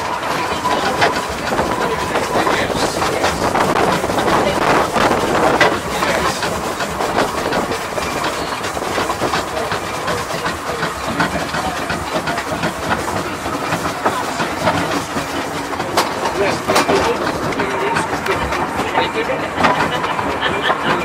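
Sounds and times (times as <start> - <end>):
train wheels rattling and clicking: 0.0 - 21.0.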